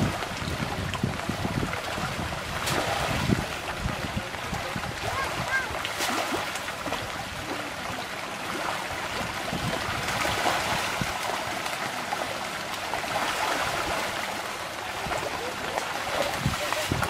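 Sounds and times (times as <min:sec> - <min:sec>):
fish splashing in pond: 0:00.0 - 0:17.0.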